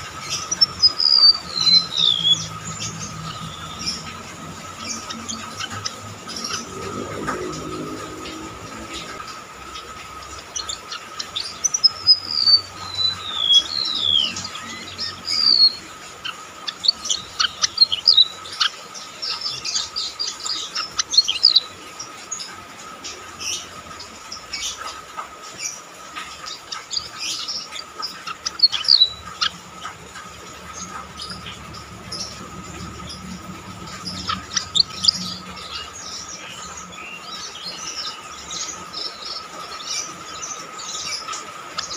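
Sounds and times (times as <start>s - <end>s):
bird whistling song: 0.0s - 7.2s, 9.8s - 21.7s, 26.4s - 30.0s, 30.7s - 41.9s.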